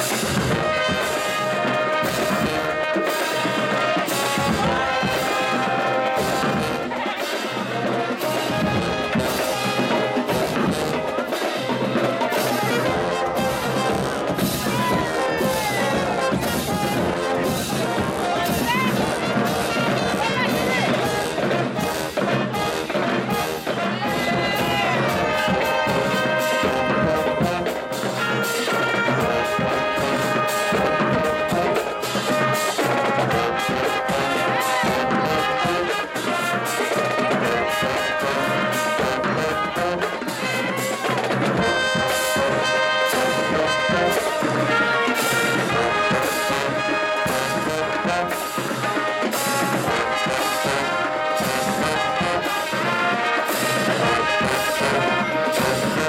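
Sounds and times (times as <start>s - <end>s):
brass band playing: 0.0s - 56.0s
drumline beat: 0.0s - 56.0s.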